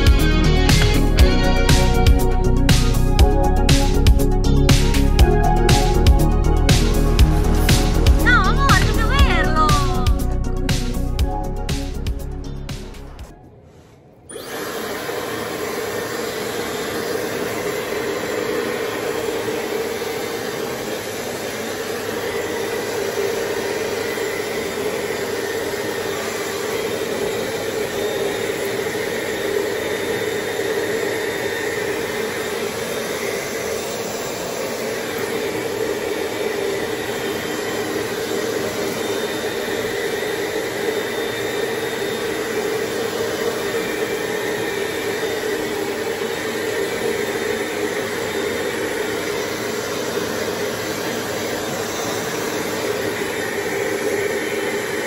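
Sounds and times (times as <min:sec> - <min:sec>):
machine whirring hum: 0:00.0 - 0:55.0.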